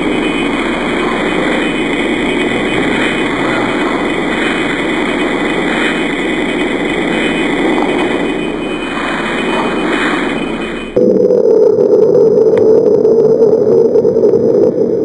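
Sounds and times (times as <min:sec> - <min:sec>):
thin high steady tones: 0:00.0 - 0:14.8
dense rushing drone: 0:00.0 - 0:15.0.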